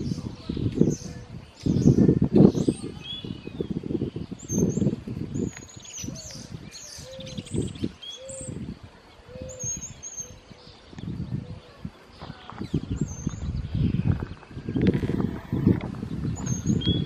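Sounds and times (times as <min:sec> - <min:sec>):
birds chirping: 0:00.0 - 0:17.0
wind rumble on microphone: 0:00.0 - 0:17.0.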